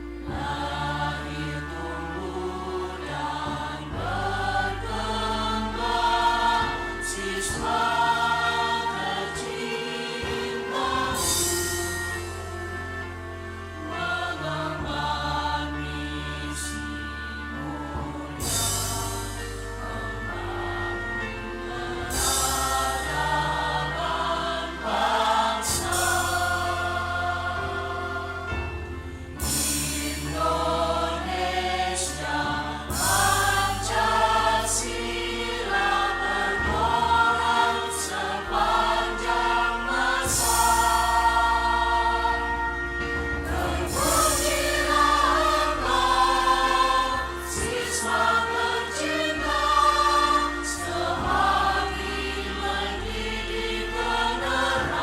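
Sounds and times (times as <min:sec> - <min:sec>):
choir singing: 0:00.0 - 0:55.0
low instrumental accompaniment: 0:00.0 - 0:55.0.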